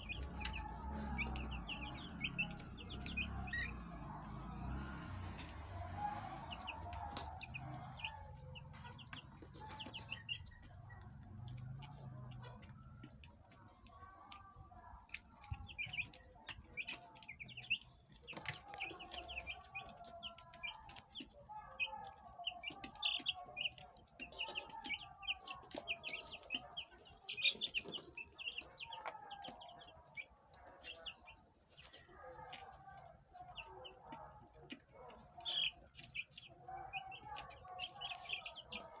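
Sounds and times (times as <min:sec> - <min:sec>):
chicks peeping: 0:00.0 - 0:39.0.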